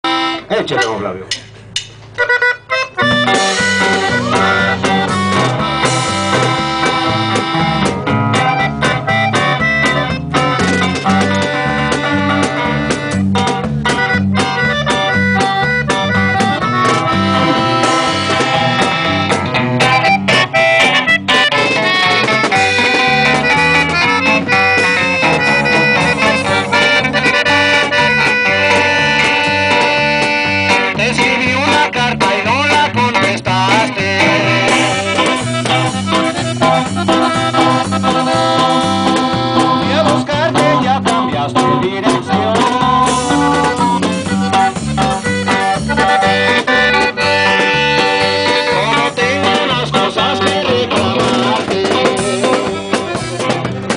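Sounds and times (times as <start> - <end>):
accordion melody: 0.0 - 53.9
electric bass: 0.0 - 53.9
live band music: 0.0 - 53.9
strummed guitars: 0.0 - 53.9
drums steady beat: 0.7 - 53.9.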